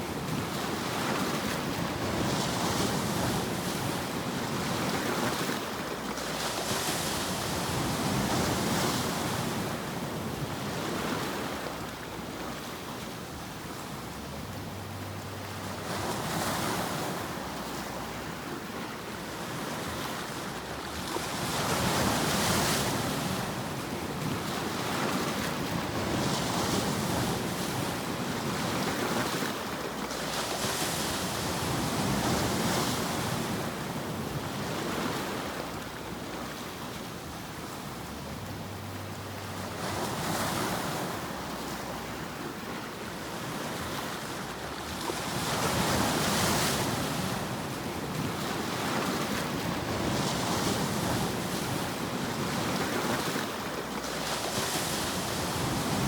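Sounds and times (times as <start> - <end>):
ocean surf: 0.0 - 56.0.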